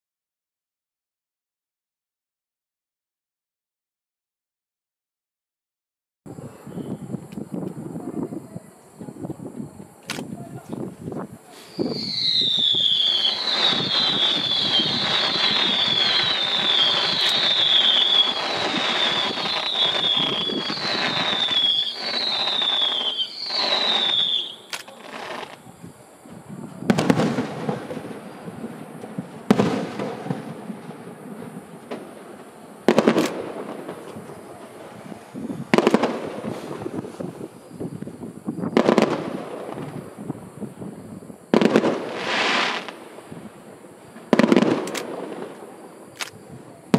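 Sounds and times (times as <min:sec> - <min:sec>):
whistling firework shells: 0:06.3 - 0:46.9
firework crackling: 0:06.4 - 0:46.9
loud firework bursts: 0:09.0 - 0:46.9.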